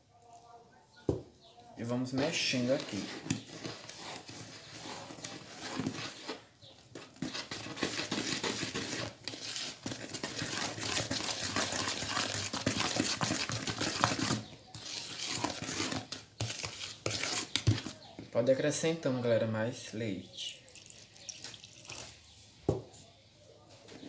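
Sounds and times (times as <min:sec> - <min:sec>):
spoon scraping batter bowl: 0:00.3 - 0:19.1, 0:20.6 - 0:23.1.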